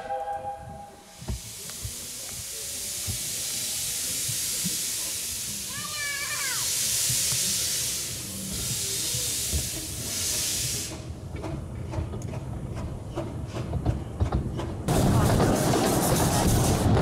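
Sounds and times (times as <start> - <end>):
steam locomotive hissing: 0.0 - 11.6, 14.9 - 17.0.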